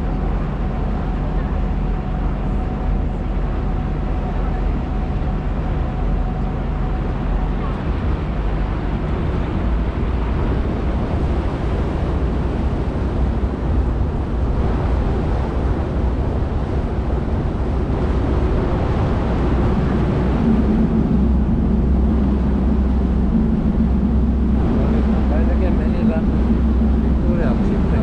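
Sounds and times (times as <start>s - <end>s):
boat engine drone: 0.0s - 28.0s
water rushing from wake: 0.0s - 28.0s.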